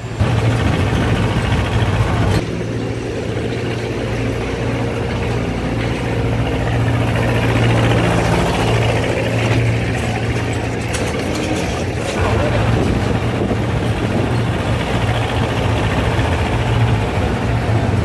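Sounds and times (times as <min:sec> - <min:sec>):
toy train engine humming: 0:00.0 - 0:18.0.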